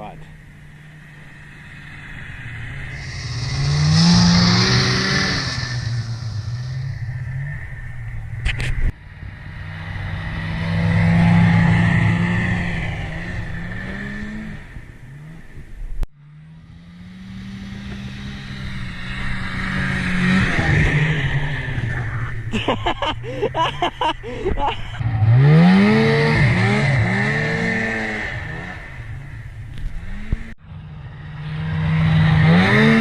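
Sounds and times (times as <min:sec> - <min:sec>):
small engine revving: 0:01.3 - 0:08.7, 0:09.4 - 0:15.6, 0:16.4 - 0:22.5, 0:25.0 - 0:30.6, 0:31.2 - 0:33.0.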